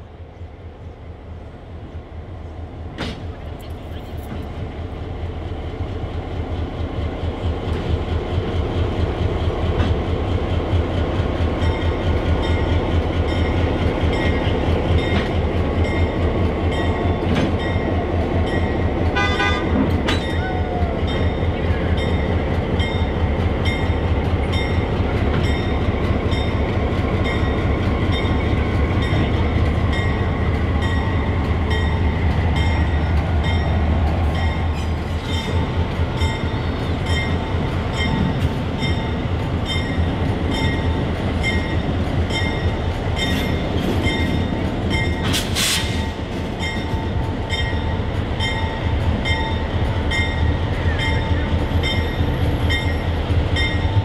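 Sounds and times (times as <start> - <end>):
diesel locomotive rumbling: 0.0 - 54.0
train wheels clattering on rails: 2.8 - 54.0.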